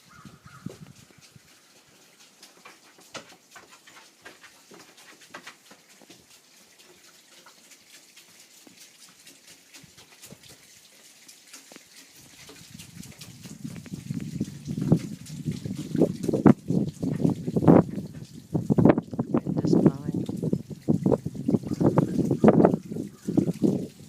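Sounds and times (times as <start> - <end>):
water dripping down a rain chain: 0.0 - 24.0.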